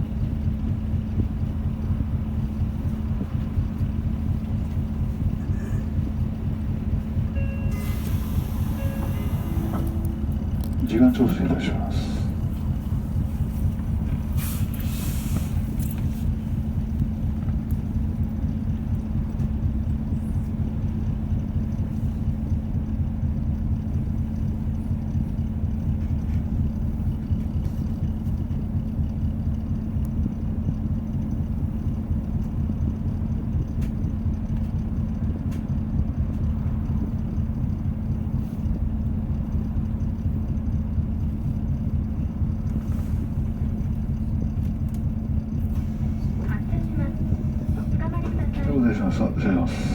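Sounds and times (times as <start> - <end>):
bus diesel engine idling: 0.0 - 49.9.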